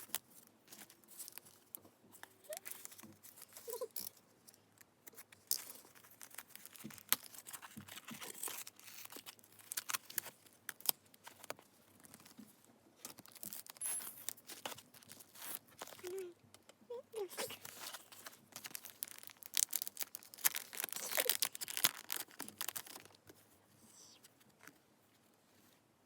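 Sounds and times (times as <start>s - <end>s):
packaging crinkling and tearing: 0.0s - 4.2s, 5.0s - 12.4s, 13.0s - 16.2s, 17.2s - 23.3s.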